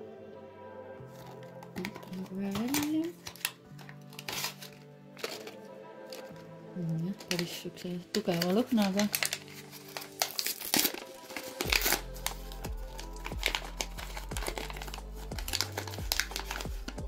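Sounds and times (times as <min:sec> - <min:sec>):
soft background music: 0:00.0 - 0:17.0
paper packet crinkling: 0:01.1 - 0:17.0.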